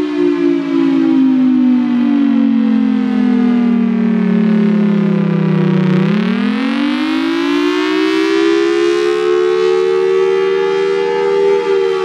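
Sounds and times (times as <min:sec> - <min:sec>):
warning siren two-note chord: 0:00.0 - 0:12.0.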